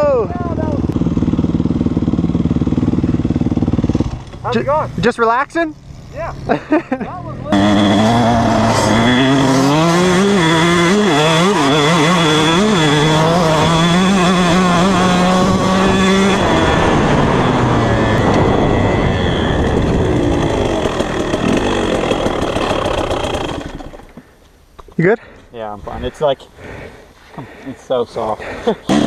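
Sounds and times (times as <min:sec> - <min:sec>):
dirt bike engine revving: 0:00.0 - 0:24.1, 0:28.6 - 0:29.0.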